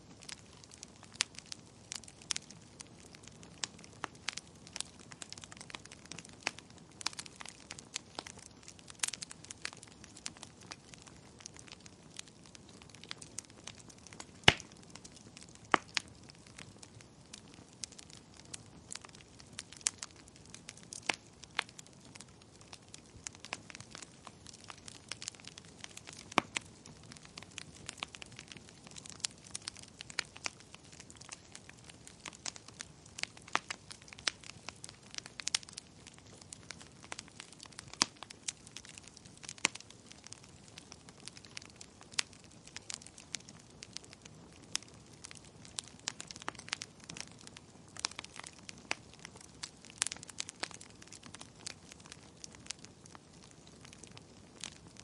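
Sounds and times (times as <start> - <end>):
burning logs crackling and popping: 0.0 - 55.0.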